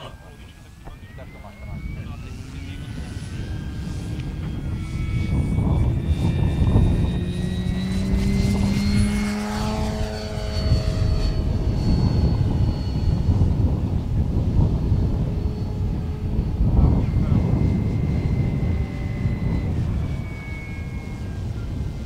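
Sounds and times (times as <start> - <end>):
electric motor and propeller whine: 0.0 - 22.0.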